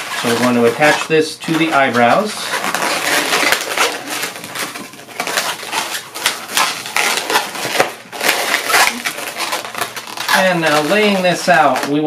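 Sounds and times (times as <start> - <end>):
balloons squeaking and rubbing: 0.0 - 12.0.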